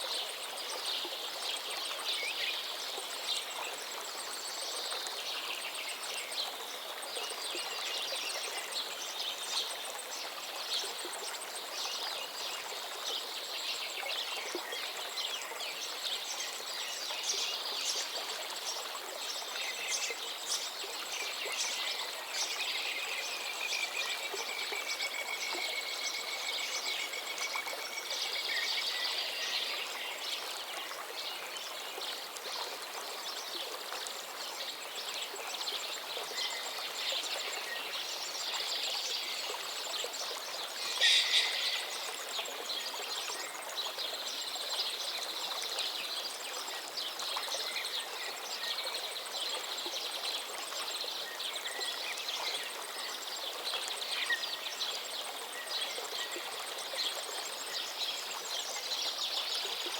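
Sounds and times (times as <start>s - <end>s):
running water of stream: 0.0s - 59.9s.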